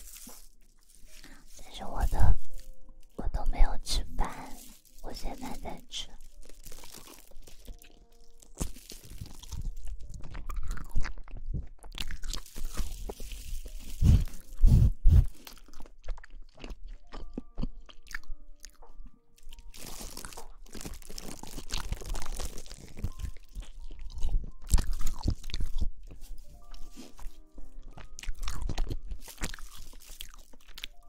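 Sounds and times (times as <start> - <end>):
faint musical tones: 0.0 - 15.5, 16.4 - 31.0
crackly rustling and scratching: 0.0 - 16.0, 19.7 - 31.0.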